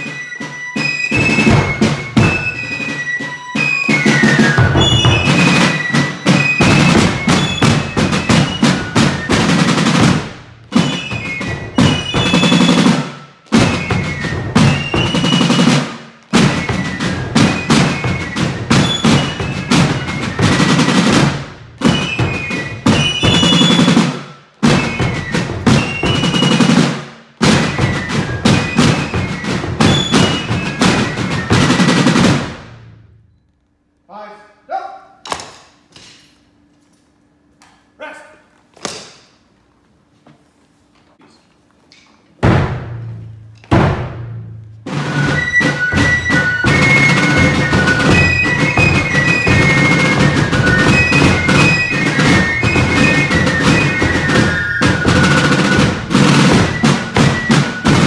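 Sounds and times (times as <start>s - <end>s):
field drums rolling: 0.0s - 33.2s, 42.3s - 58.0s.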